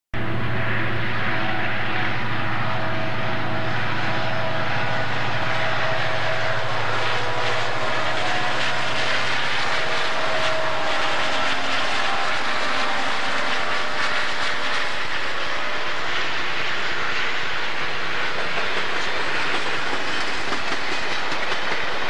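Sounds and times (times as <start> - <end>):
locomotive engine drone: 0.2 - 22.0
wheel and rail clatter: 3.4 - 22.0.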